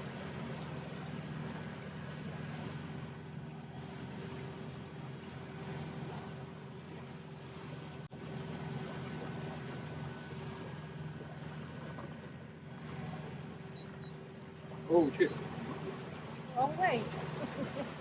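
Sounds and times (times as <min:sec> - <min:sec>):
boat diesel engine humming: 0:00.0 - 0:18.0.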